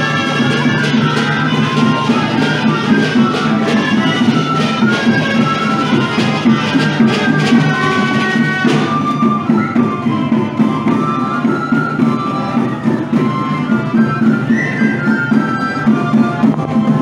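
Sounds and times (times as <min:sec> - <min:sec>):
drum beat: 0:00.0 - 0:17.0
shawms playing folk tune: 0:00.0 - 0:17.0.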